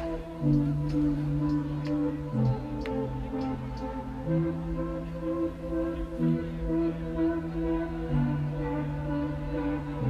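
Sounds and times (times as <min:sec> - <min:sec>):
electronic music over sound system: 0:00.0 - 0:10.0.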